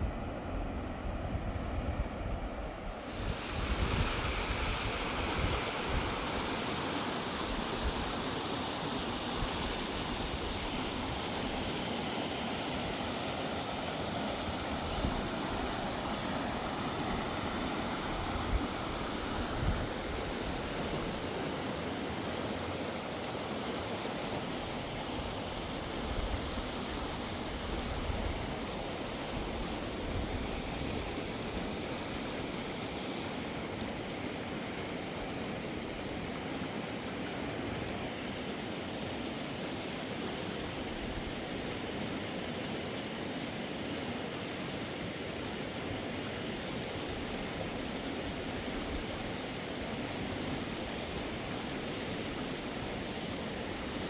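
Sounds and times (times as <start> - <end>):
river rushing: 2.6 - 54.0.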